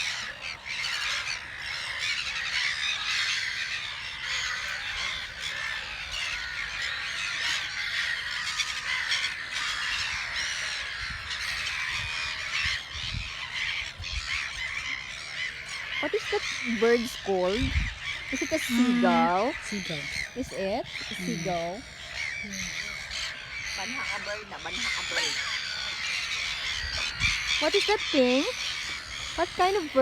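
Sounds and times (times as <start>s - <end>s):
gulls calling: 0.0s - 30.0s.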